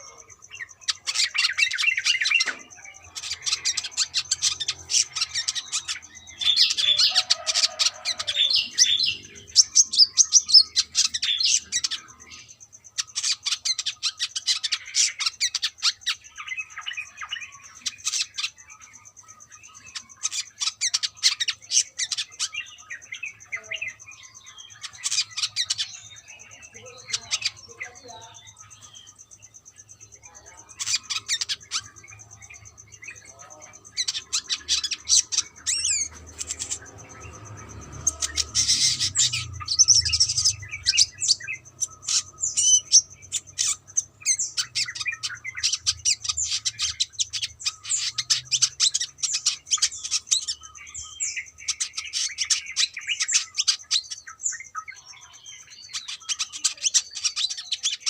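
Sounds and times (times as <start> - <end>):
bird chirping and twittering: 0.0 - 58.0.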